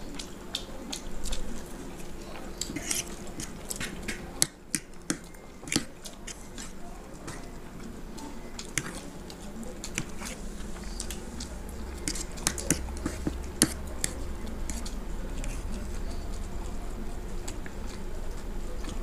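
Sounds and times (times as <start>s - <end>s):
forks clicking on plates: 0.0s - 16.3s
chewing and slurping noodles: 0.0s - 19.0s
low steady hum: 0.0s - 19.0s.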